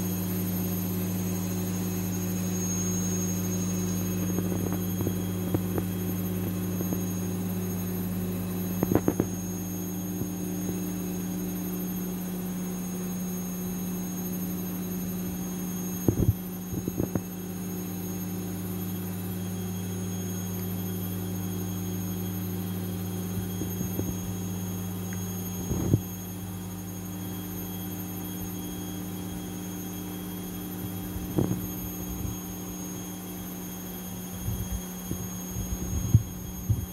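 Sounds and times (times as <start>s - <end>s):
low electrical hum: 0.0s - 36.9s.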